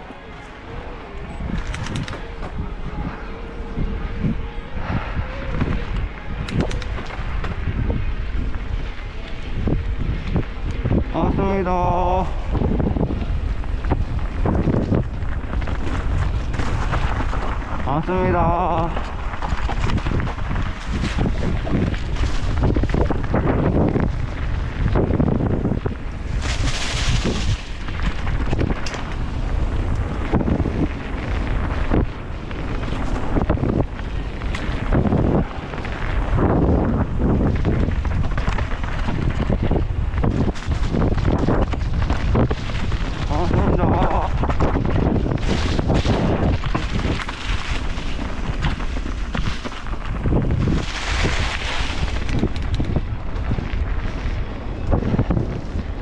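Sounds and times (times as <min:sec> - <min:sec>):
bike rattling over rough ground: 0:00.0 - 0:56.0
wind buffeting microphone: 0:00.0 - 0:56.0.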